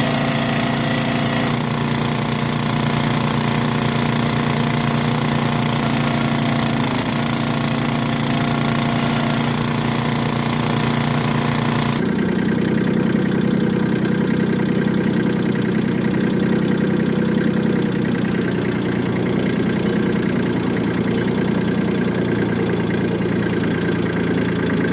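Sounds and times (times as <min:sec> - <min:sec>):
engine idling: 0:00.0 - 0:24.9.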